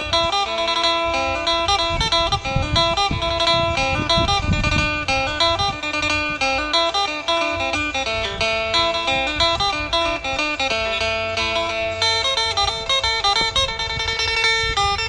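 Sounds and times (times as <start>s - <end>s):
plucked lute melody: 0.0s - 15.0s.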